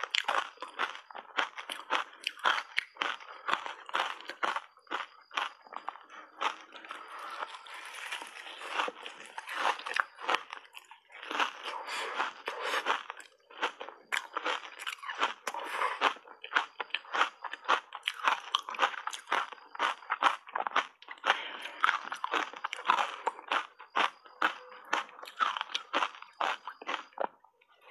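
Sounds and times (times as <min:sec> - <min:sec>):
ice crunching in mouth: 0:00.0 - 0:27.4.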